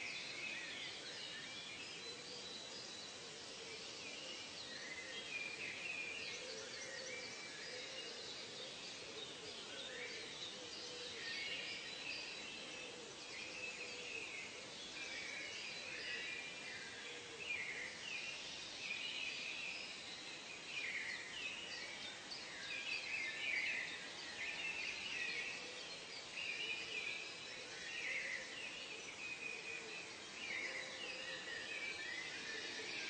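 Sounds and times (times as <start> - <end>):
birds chirping and trilling: 0.0 - 33.0
steady background hiss: 0.0 - 33.0.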